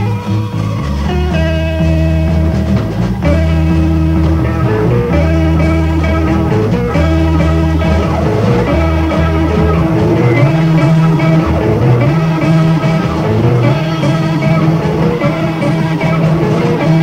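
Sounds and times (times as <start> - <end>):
electric guitar chords: 0.0 - 17.0
held bass notes: 0.0 - 17.0.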